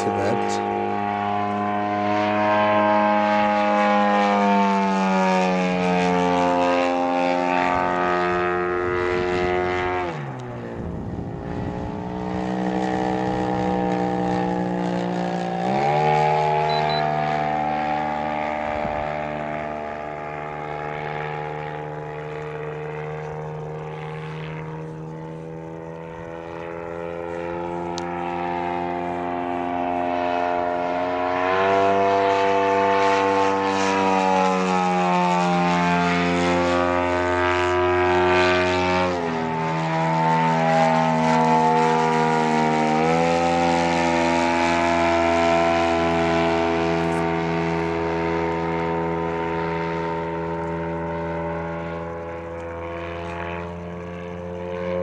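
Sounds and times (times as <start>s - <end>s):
model airplane engine droning: 0.0s - 55.0s.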